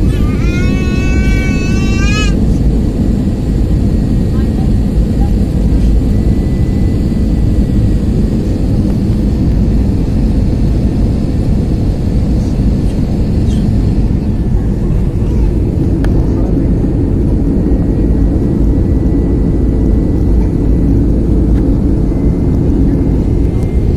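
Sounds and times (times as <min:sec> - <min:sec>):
airliner cabin drone: 0:00.0 - 0:23.9
faint high whine: 0:01.0 - 0:23.9.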